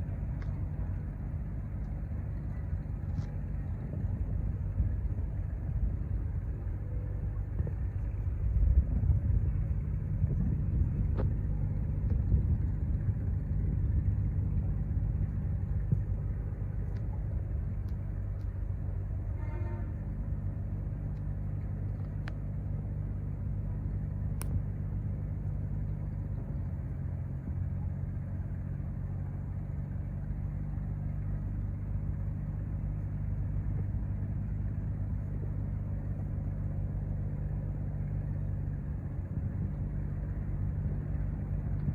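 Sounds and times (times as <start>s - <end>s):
ship engine humming: 0.0s - 41.9s.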